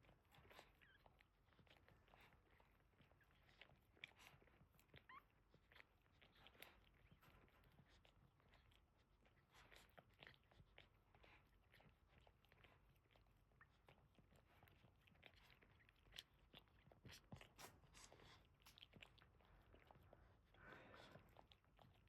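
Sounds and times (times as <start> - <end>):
dog licking puppies: 0.0 - 22.0.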